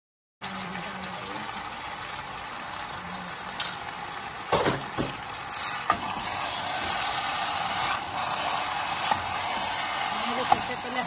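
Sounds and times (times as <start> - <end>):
chicken sizzling in hot oil: 0.4 - 11.0.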